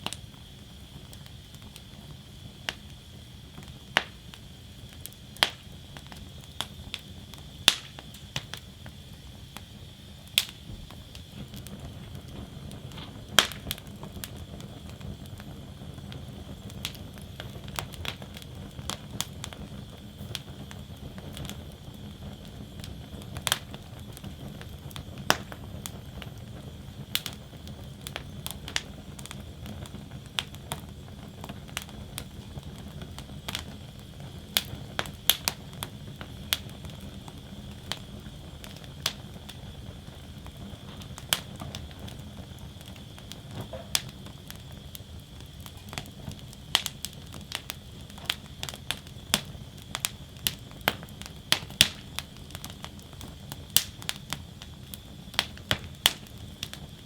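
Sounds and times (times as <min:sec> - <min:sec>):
burning wood crackling and popping: 0:00.0 - 0:57.0
flames rushing: 0:00.0 - 0:57.0.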